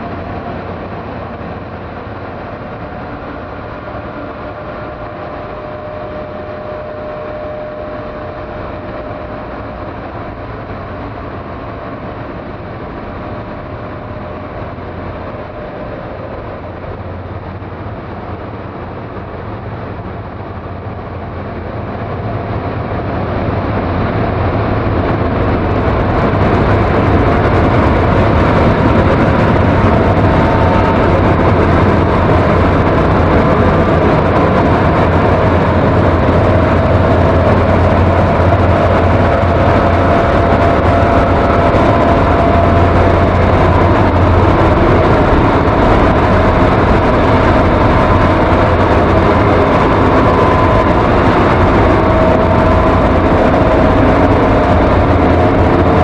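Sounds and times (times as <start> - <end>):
dark ambient drone music: 0.0 - 56.0.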